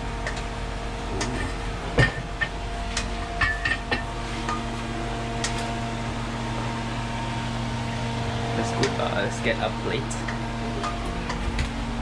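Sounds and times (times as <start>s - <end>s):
steady fan hum: 0.0s - 12.0s.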